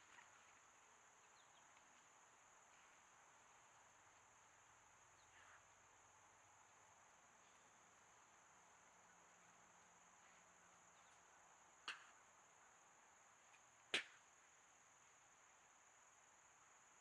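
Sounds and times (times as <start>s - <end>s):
faint high-pitched hum: 0.0s - 17.0s.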